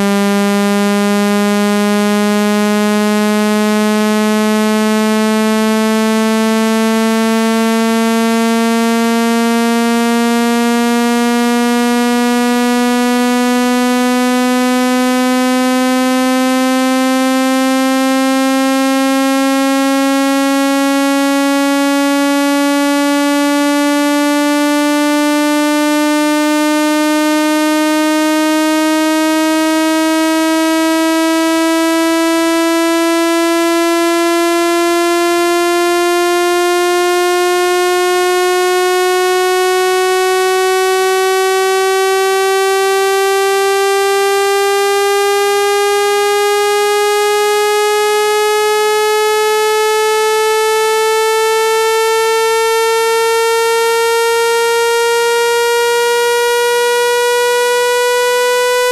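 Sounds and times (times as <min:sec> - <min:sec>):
buzzy synthesized tone rising in pitch: 0:00.0 - 0:58.9.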